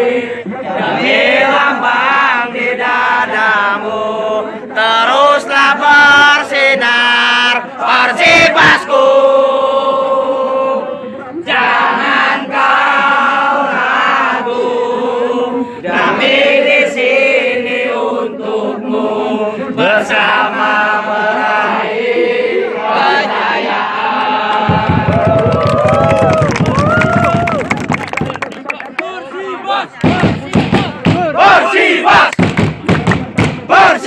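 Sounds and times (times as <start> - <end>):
crowd chanting and singing: 0.0 - 26.8, 28.6 - 34.0.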